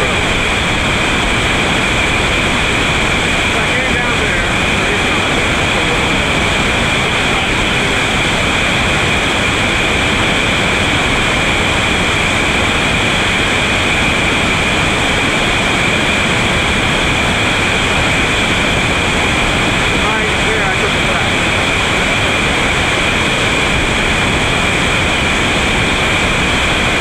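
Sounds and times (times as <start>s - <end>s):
whitewater rapid rushing: 0.0s - 27.0s.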